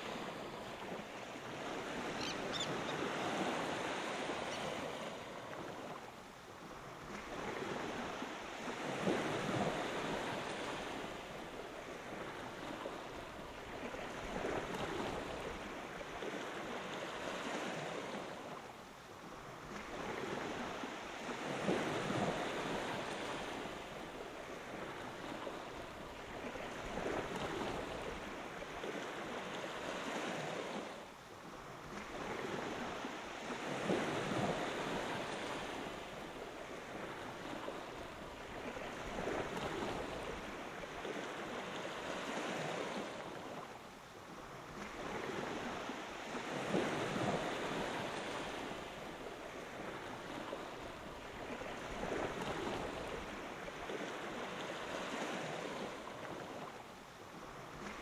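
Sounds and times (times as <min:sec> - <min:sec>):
small waves breaking on a beach: 0:00.0 - 0:58.0.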